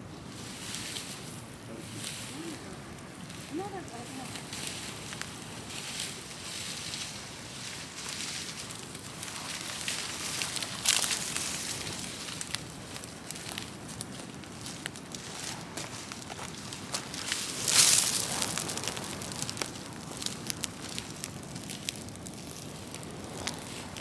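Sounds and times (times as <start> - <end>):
bonfire hissing: 0.0 - 24.0
fire crackles and pops: 0.0 - 24.0.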